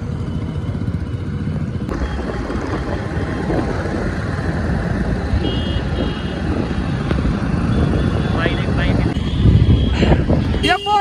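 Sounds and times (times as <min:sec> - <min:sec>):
engine drone: 0:00.0 - 0:10.5
wind and road noise: 0:00.0 - 0:11.0.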